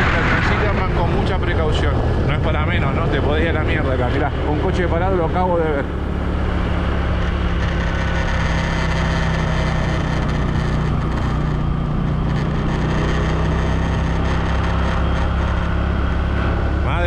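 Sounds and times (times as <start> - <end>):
rushing noise: 0.0 - 17.0
scooter engine droning: 0.0 - 17.0.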